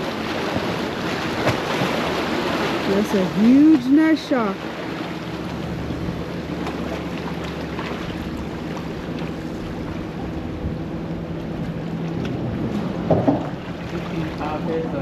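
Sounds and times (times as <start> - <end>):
low engine hum: 0.0 - 15.0
surf: 0.0 - 15.0
wind: 0.0 - 15.0.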